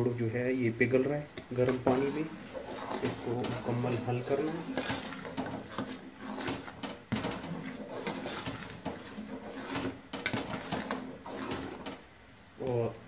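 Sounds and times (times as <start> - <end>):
spoon scraping metal pot: 1.4 - 12.0.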